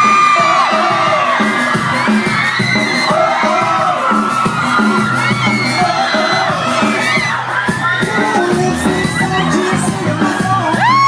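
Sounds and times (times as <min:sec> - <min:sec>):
crowd screaming and cheering: 0:00.0 - 0:11.0
live pop music: 0:00.0 - 0:11.0.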